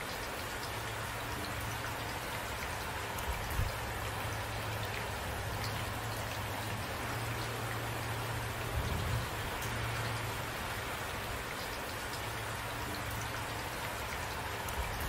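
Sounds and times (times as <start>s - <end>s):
rain falling: 0.0s - 15.0s
raindrops ticking close by: 0.0s - 15.0s.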